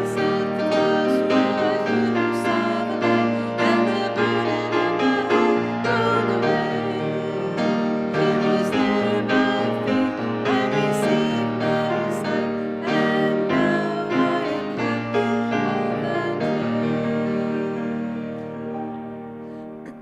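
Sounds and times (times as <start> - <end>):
piano playing hymn chords: 0.0 - 20.0.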